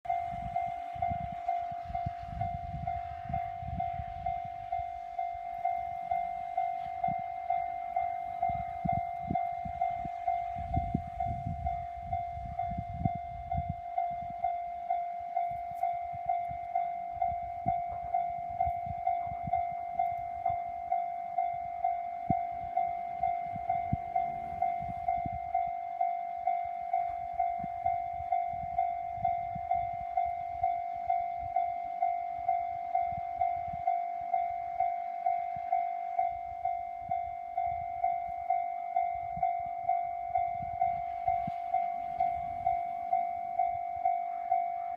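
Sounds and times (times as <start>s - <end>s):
level crossing warning bell: 0.0s - 44.9s.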